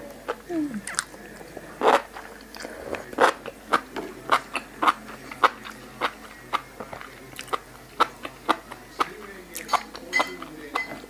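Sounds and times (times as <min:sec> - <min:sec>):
person chewing crunchy salad: 0:00.0 - 0:11.0.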